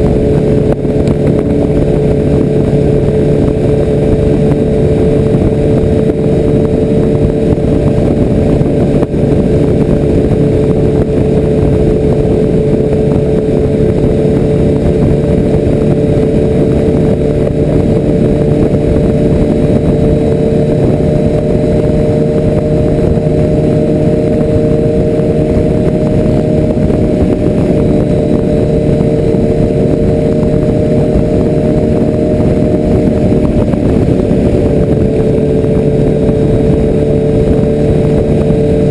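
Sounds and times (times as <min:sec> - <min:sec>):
motorcycle engine cruising: 0:00.0 - 0:38.9
wind rushing: 0:00.0 - 0:38.9.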